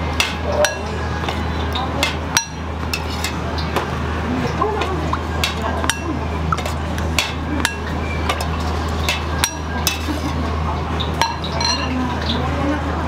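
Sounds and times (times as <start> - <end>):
metal utensils and bowls clinking: 0.2 - 12.3.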